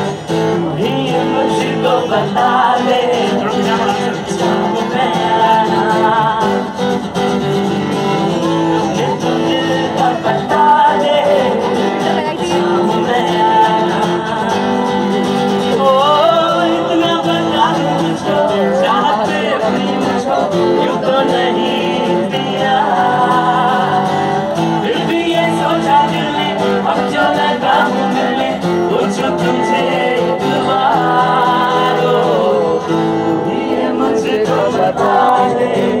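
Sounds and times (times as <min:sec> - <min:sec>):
man singing into microphone: 0:00.0 - 0:06.9, 0:08.1 - 0:36.0
strummed acoustic guitar: 0:00.0 - 0:36.0.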